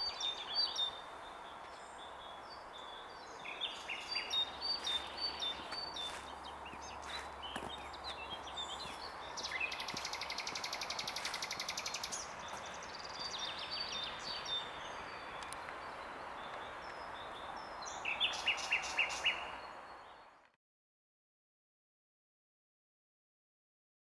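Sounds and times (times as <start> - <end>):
songbirds singing: 0.0 - 20.6.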